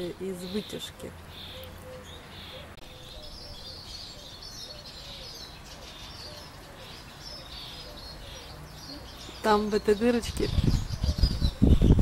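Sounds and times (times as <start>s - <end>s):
birds chirping high notes: 0.0s - 12.0s.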